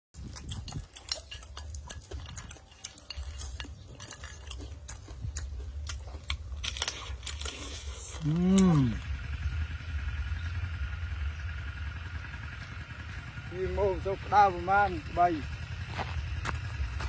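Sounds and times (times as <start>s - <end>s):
low steady rumble: 0.2s - 17.0s.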